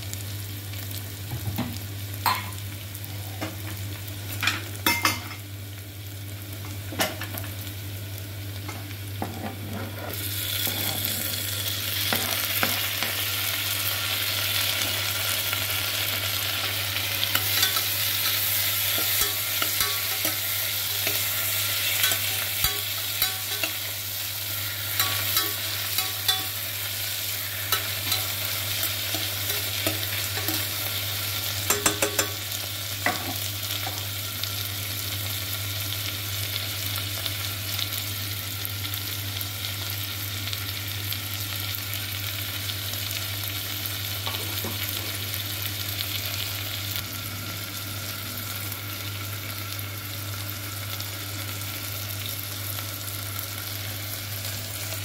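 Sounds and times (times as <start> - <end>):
onions frying in oil: 0.0 - 55.0.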